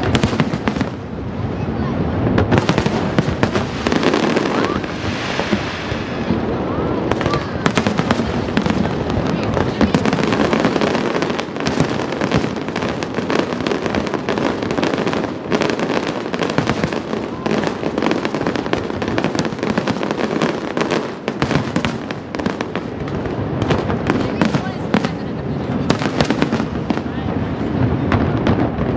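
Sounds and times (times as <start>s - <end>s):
fireworks bursting and crackling: 0.0s - 28.9s.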